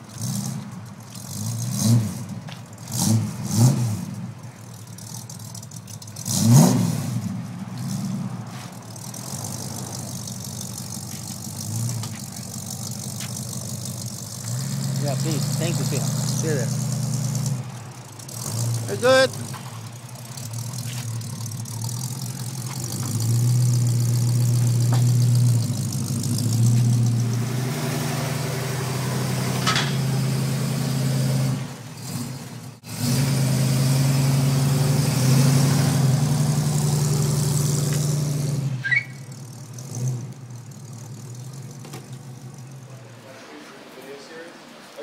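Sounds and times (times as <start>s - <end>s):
car engine revving at low speed: 0.0s - 43.6s.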